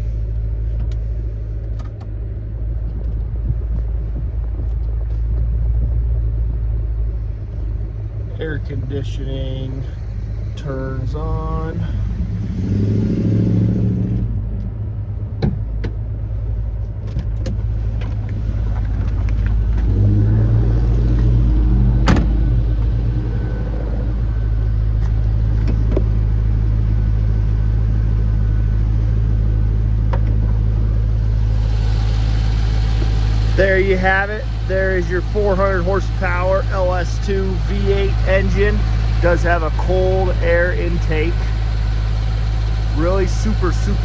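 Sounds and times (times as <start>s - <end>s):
car engine idling: 0.0s - 5.2s, 7.4s - 44.0s.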